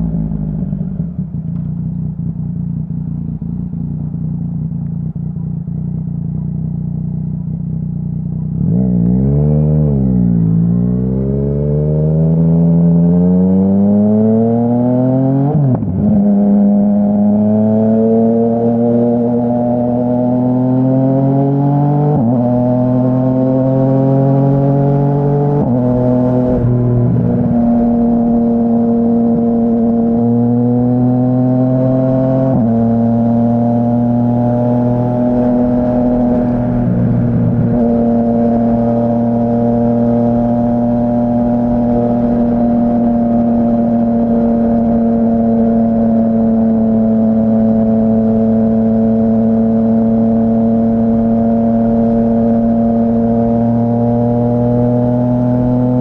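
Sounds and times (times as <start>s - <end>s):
motorcycle engine revving while riding: 0.0s - 56.0s.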